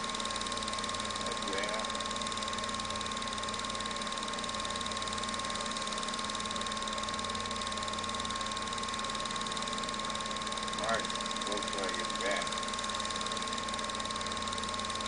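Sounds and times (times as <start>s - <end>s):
film advancing clatter: 0.0s - 15.0s
film projector whirring: 0.0s - 15.0s
thin steady whine: 0.0s - 15.0s.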